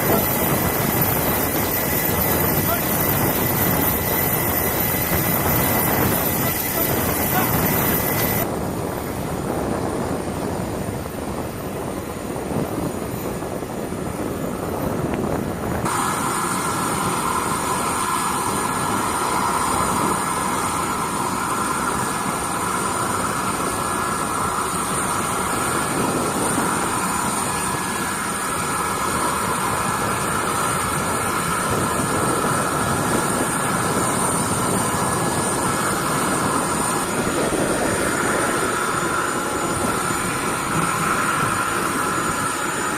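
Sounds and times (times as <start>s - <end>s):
high steady whine: 0.0s - 42.9s
jet engines roaring: 0.0s - 42.9s.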